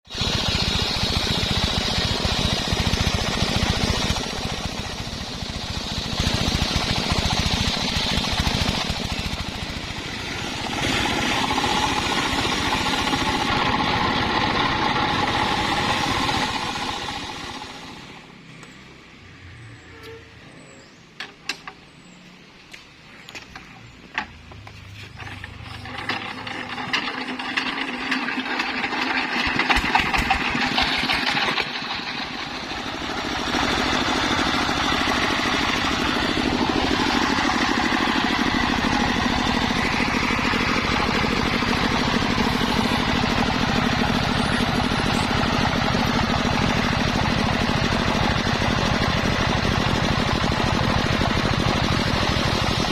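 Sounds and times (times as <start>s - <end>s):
circular saw engine running: 0.0s - 18.4s, 25.0s - 52.9s.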